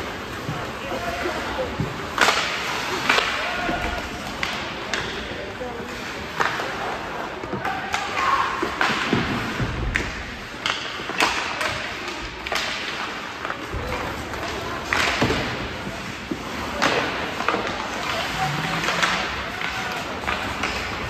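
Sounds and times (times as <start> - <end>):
hockey sticks and puck clacking: 0.0 - 21.0
rink background noise: 0.0 - 21.0.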